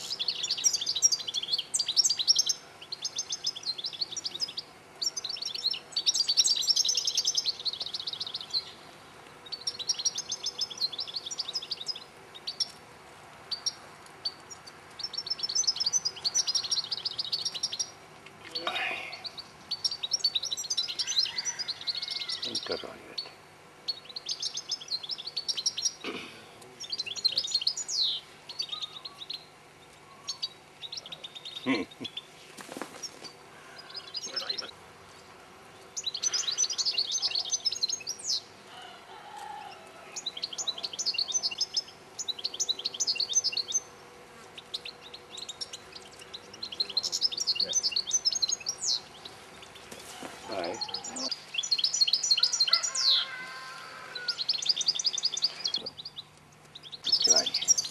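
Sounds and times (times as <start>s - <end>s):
finch twittering song: 0.0s - 12.8s, 13.5s - 26.1s, 26.8s - 32.3s, 32.9s - 38.5s, 39.6s - 57.9s.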